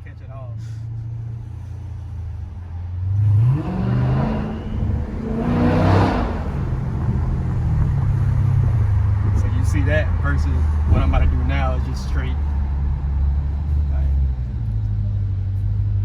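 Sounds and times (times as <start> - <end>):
car engine accelerating hard: 1.0 - 16.0.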